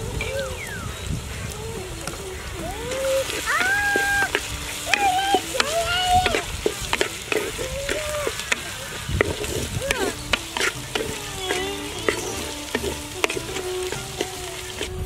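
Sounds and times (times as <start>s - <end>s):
shallots sizzling in oil: 0.0s - 15.0s
wooden spatula scraping pot: 2.9s - 15.0s.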